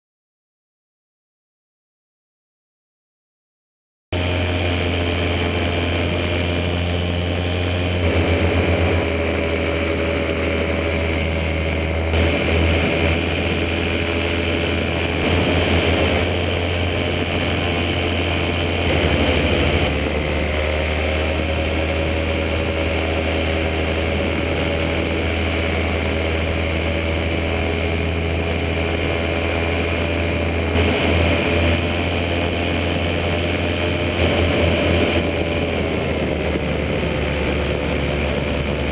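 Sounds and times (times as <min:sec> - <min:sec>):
paramotor engine and propeller: 0:04.2 - 0:38.9.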